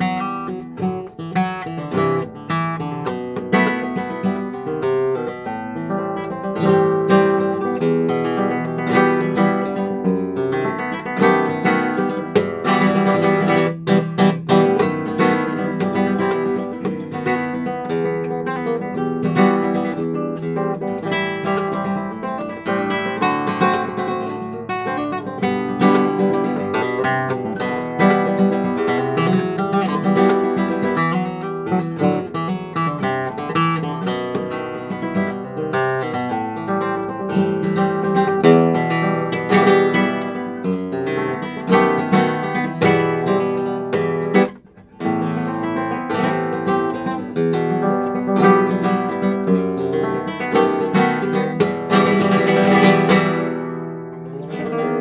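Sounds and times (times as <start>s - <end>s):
flamenco guitar playing: 0.0s - 55.0s.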